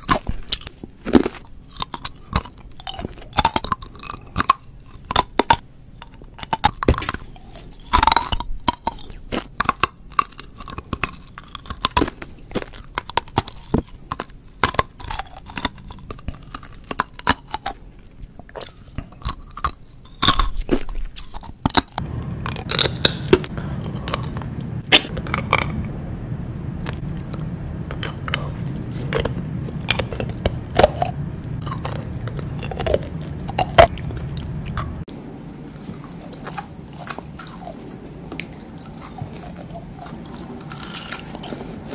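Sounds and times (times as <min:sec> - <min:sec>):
rock candy crunching: 0:00.0 - 0:25.9, 0:26.8 - 0:41.9
steady low hum: 0:00.0 - 0:41.9.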